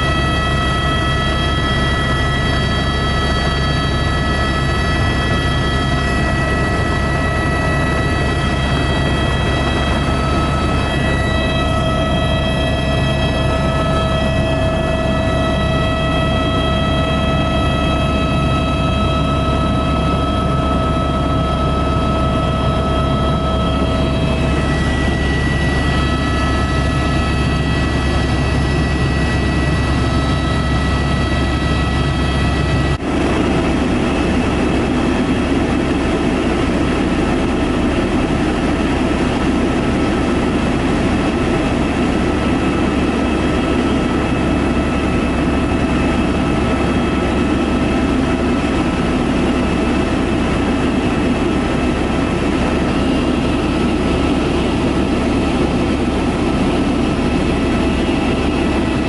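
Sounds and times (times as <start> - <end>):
helicopter cabin drone: 0.0 - 59.0
high whine: 0.0 - 59.0.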